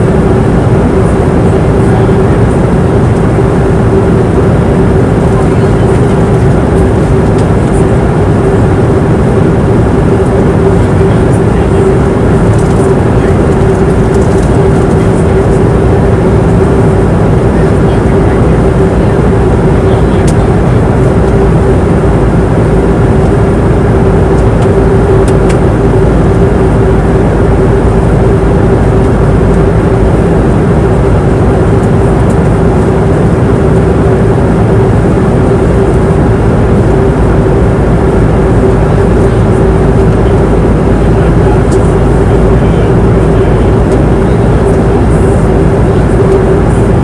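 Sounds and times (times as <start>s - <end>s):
airliner cabin engine and airflow rush: 0.0s - 47.0s
constant hum: 0.0s - 47.0s.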